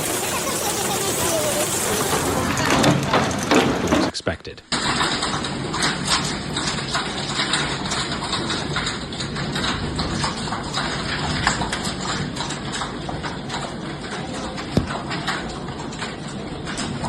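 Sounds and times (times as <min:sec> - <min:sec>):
hail pelting hard surfaces: 0:00.0 - 0:04.1, 0:04.7 - 0:17.0.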